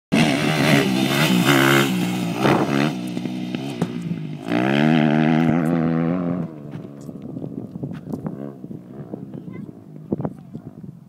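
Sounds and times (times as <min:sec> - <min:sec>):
dirt bike engine revving: 0:00.1 - 0:10.2.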